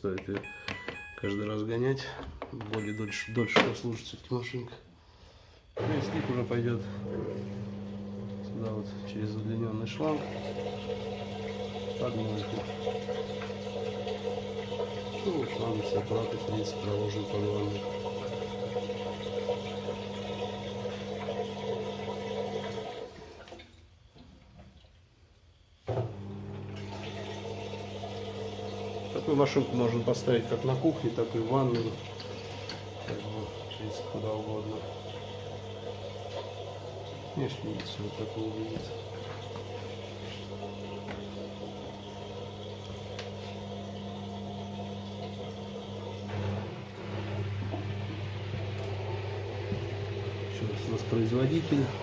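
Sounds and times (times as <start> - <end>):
drain pump humming: 5.8 - 24.2, 25.9 - 52.0.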